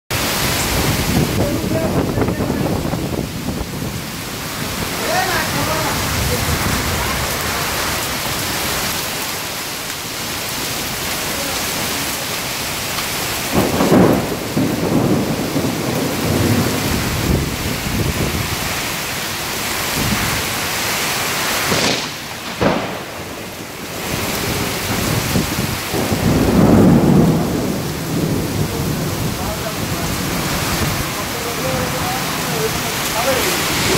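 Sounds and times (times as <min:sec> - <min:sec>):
heavy rain: 0:00.1 - 0:33.9
strong wind: 0:00.1 - 0:33.9
thunder rumbling: 0:00.2 - 0:20.8, 0:21.6 - 0:33.9.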